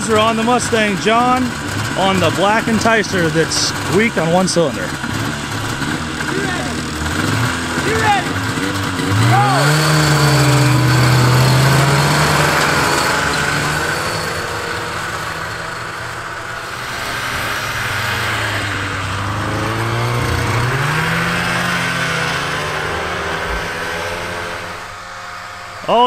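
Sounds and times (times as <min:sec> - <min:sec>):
snowmobile engines accelerating: 0:00.0 - 0:26.0.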